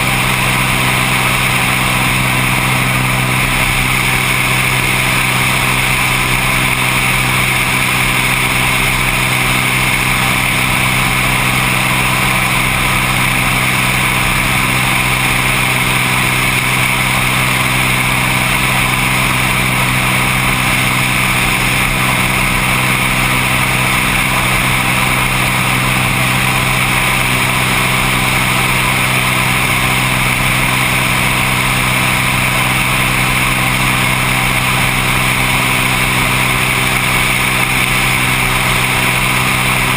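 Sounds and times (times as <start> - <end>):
seaplane engine and propeller drone: 0.0 - 39.9.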